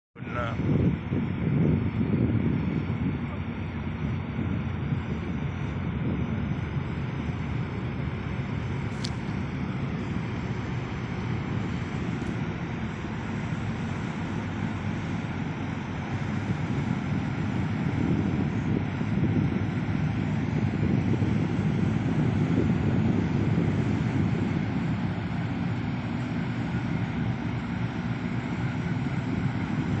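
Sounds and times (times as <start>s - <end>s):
ship engines rumbling: 0.2s - 30.0s.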